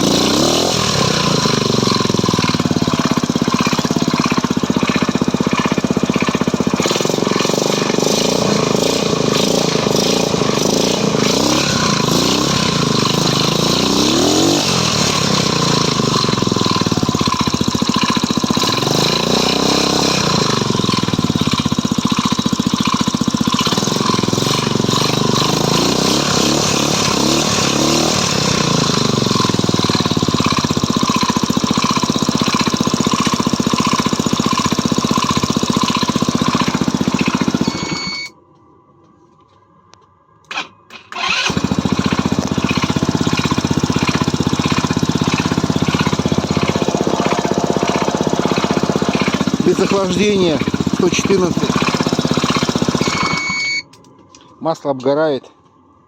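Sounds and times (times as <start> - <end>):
motorcycle engine revving: 0.0 - 38.3, 40.5 - 53.9.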